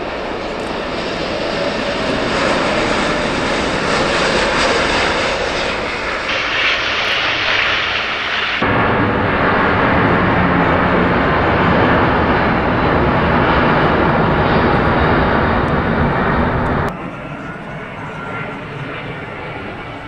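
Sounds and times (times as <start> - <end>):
jet airliner roar: 0.0 - 20.0.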